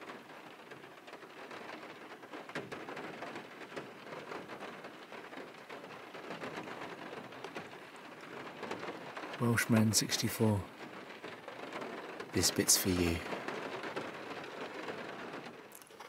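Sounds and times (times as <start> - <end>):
light rain on a car roof: 0.0 - 16.0.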